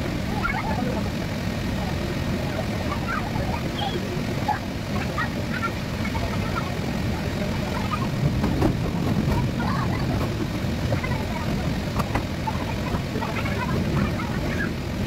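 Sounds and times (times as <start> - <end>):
blower fan humming: 0.0 - 15.0.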